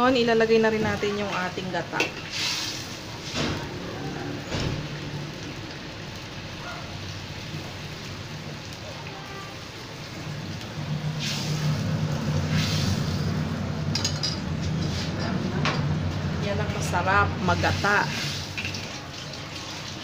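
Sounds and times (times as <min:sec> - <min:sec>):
curry bubbling in a wok: 0:00.9 - 0:16.4, 0:17.4 - 0:20.0.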